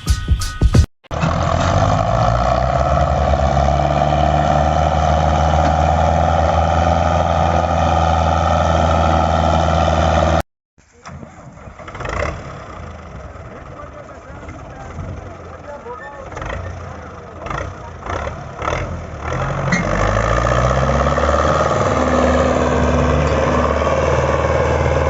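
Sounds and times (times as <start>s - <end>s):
tractor diesel engine running: 1.1s - 10.4s, 11.0s - 25.0s
quieter engine: 1.1s - 25.0s.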